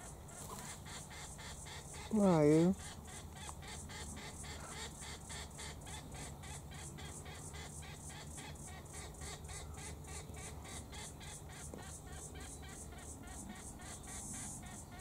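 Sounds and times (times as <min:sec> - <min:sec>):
cicadas singing: 0:00.0 - 0:15.0.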